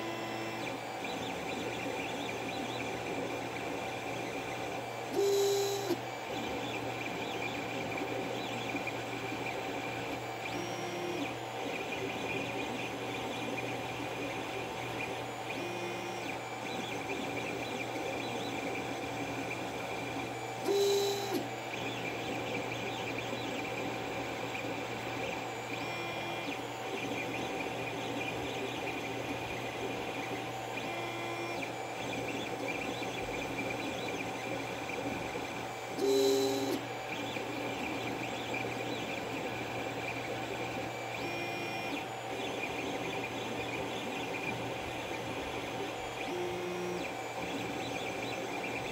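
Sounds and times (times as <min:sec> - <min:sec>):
printer motor bursts: 0:00.0 - 0:48.9
three d printer humming: 0:00.0 - 0:48.9.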